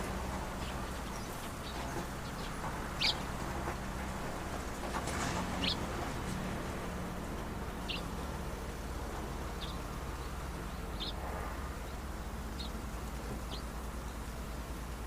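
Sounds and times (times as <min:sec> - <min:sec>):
small birds chirping: 0:00.0 - 0:06.6, 0:07.2 - 0:15.0
steady low background hum: 0:00.0 - 0:15.0.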